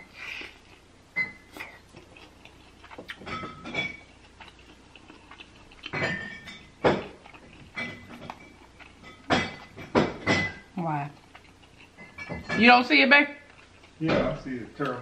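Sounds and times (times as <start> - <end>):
chewing crispy food: 0.0 - 12.5, 13.3 - 15.0.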